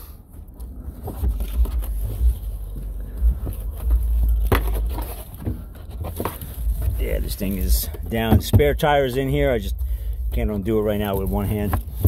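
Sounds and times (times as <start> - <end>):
trunk floor cover scraping: 0.7 - 12.0
buffeting rumble on microphone: 0.8 - 12.0.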